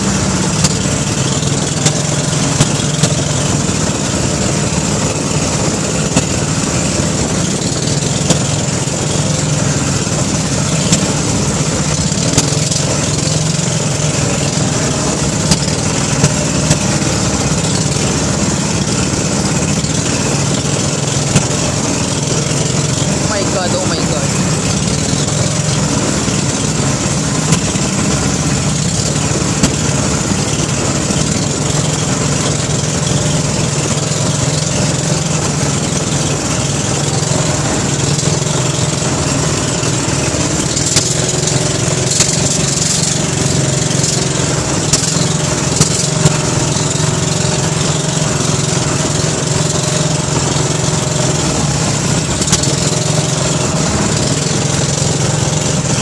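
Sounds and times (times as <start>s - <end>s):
boat engine running: 0.0s - 56.0s
water hissing over hull: 0.0s - 56.0s.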